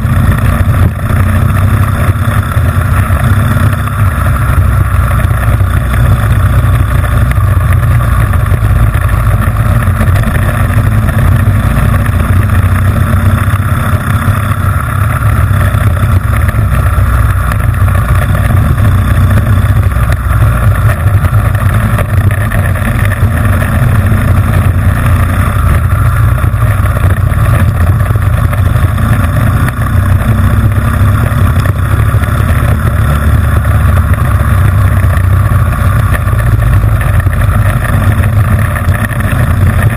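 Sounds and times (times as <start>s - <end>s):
kart engine droning: 0.0s - 39.9s.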